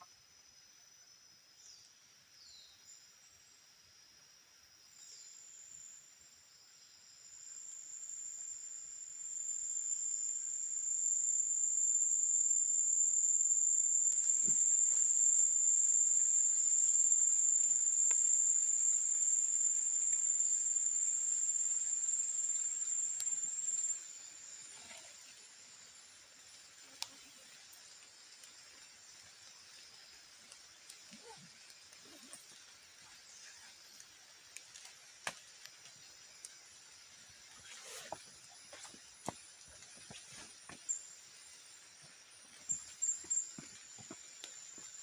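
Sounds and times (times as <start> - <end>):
insect high-pitched shrill: 0.0 - 45.0.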